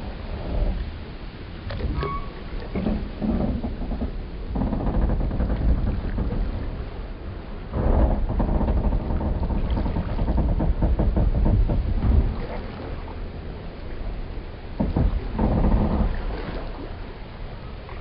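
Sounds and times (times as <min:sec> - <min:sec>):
constant low rumble: 0:00.0 - 0:18.0
wooden boats creaking: 0:00.0 - 0:18.0.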